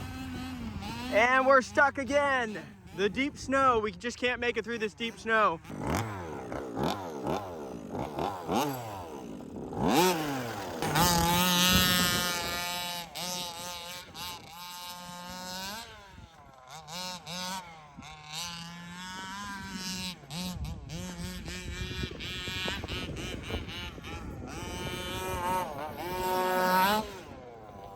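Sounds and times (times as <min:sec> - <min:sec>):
small two-stroke engine revving: 0:00.0 - 0:27.9.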